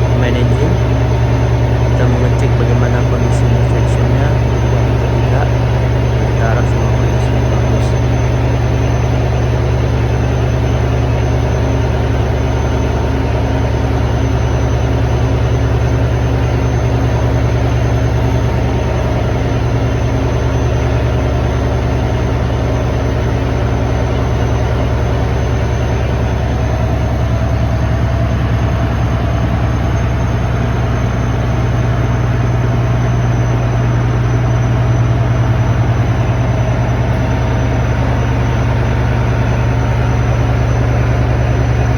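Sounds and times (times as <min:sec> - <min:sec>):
marine diesel engine running: 0:00.0 - 0:41.9.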